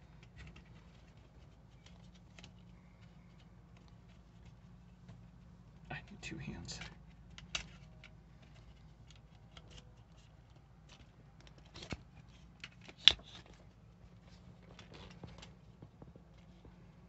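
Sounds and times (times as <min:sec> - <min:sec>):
clicks and knocks of handled objects: 0:00.0 - 0:05.9, 0:06.7 - 0:16.8.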